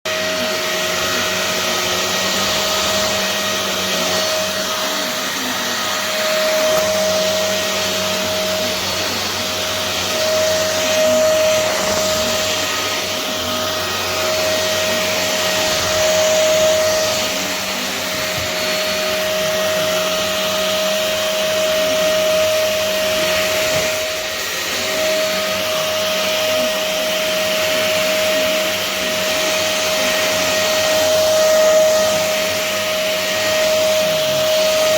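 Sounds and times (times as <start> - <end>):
stick vacuum motor whine: 0.1 - 34.9.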